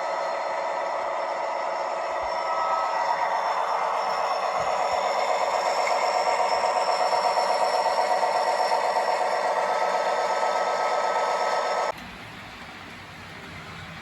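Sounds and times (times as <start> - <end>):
model train motor whirr: 0.0 - 12.0
low engine-like hum: 0.0 - 14.0
wheels rattling on track: 0.0 - 14.0.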